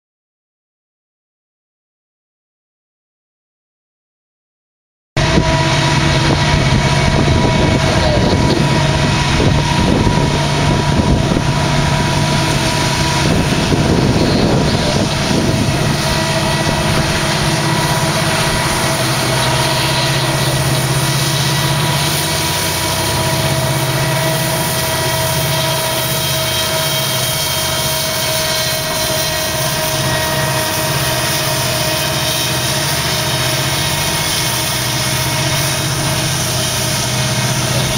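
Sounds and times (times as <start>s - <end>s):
diesel locomotives roaring: 5.2s - 37.9s
locomotive whine: 5.2s - 37.9s.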